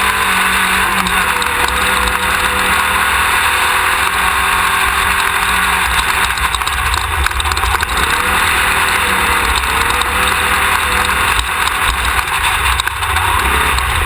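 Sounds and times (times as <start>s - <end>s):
buggy engine running hard: 0.0s - 14.0s
road and wind noise: 0.0s - 14.0s.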